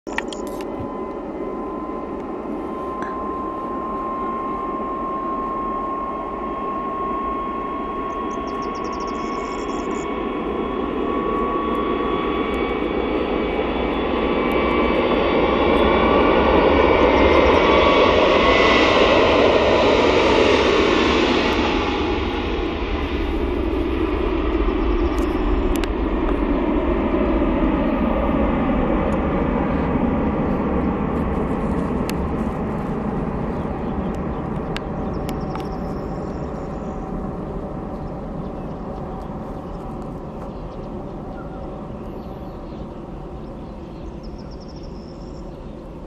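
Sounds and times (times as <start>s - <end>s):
jet engines at takeoff: 0.1s - 46.0s.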